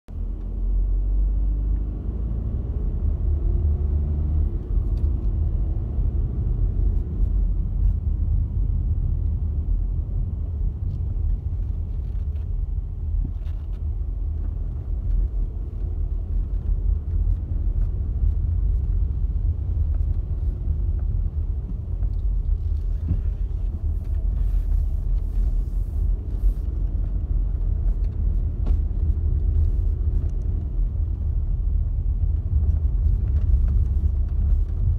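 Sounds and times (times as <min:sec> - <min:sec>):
car engine and tyres rumbling: 0:00.1 - 0:34.9.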